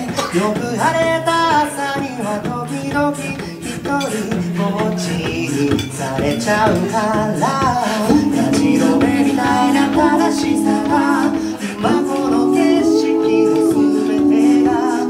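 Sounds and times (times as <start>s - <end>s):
chorus singing held chords: 0.0s - 15.0s
lead singing voice: 0.0s - 15.0s
vocal percussion: 0.0s - 15.0s.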